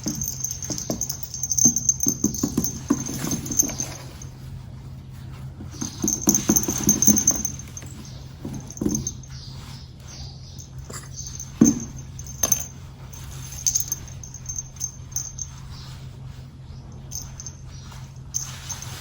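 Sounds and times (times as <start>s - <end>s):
rustling scratching and tapping: 0.0s - 4.6s, 5.2s - 15.9s, 17.0s - 19.0s
steady low hum: 0.0s - 19.0s.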